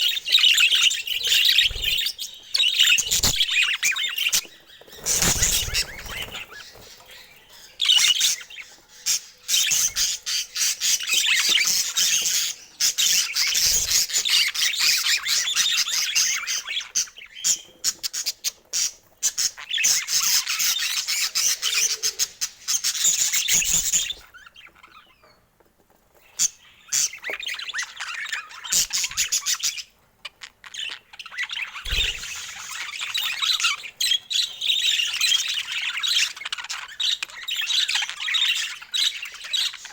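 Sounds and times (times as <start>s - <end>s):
budgerigars chattering and chirping: 0.0s - 25.4s, 26.2s - 39.9s.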